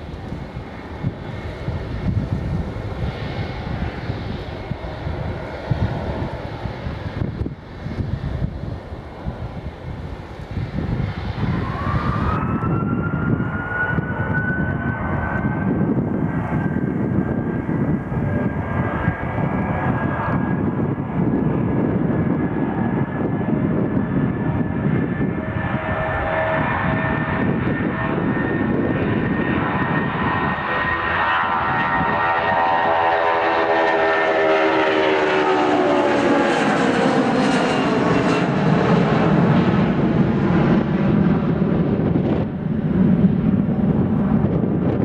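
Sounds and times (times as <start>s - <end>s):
jet engines whining: 0.0s - 45.0s
loud engine rumble: 0.0s - 45.0s.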